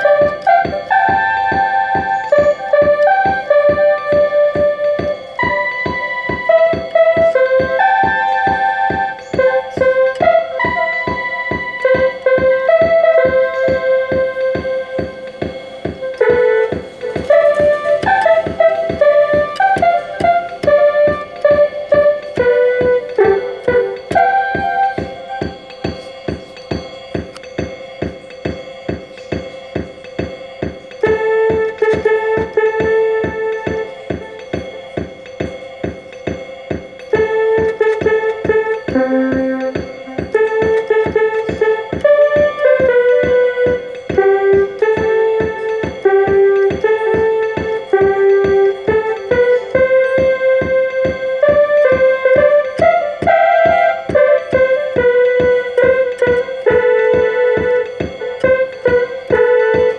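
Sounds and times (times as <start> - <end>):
electronic keyboard melody: 0.0 - 59.9
steady beat: 0.0 - 59.9.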